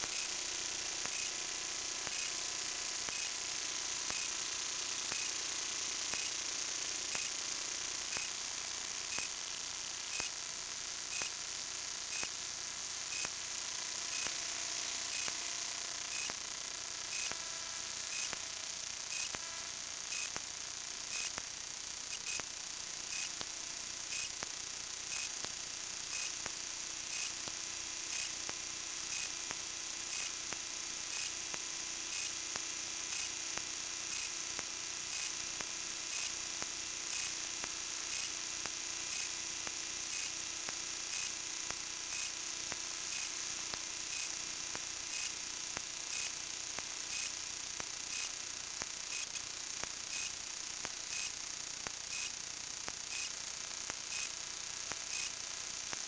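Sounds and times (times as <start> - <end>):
high electronic hiss: 0.0 - 56.0.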